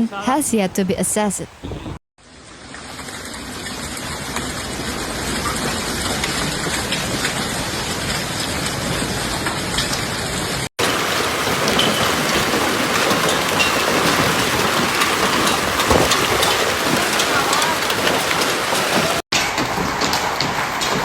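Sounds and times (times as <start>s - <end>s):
heavy rain pouring: 2.3s - 21.0s.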